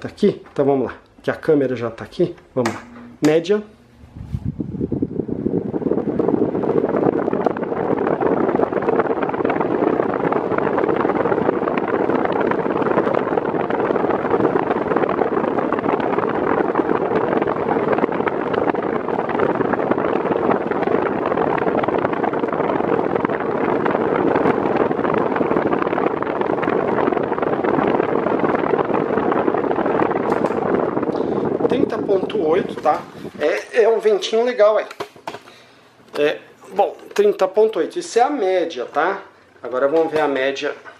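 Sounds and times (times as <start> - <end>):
fan airflow rushing: 0.0 - 40.9.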